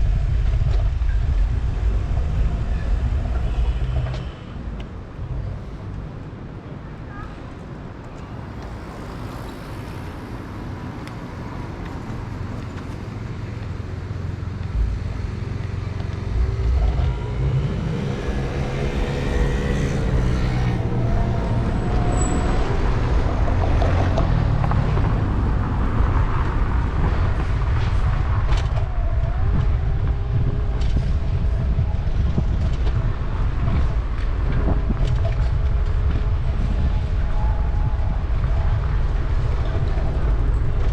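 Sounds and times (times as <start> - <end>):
low rumble: 0.0 - 6.3, 11.5 - 40.9
city street traffic: 0.0 - 40.9
passing motor vehicle hum: 0.0 - 40.9.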